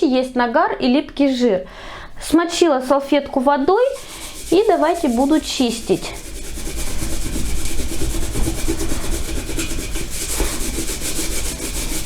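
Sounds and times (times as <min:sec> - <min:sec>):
wet cloth scrubbing a kettle: 0:02.1 - 0:12.0.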